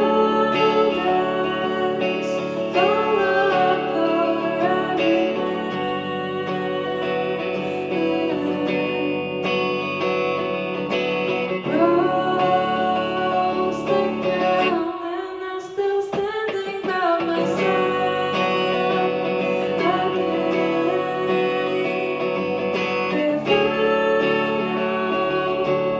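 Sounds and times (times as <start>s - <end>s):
live band led by guitar: 0.0s - 14.9s, 16.1s - 25.9s.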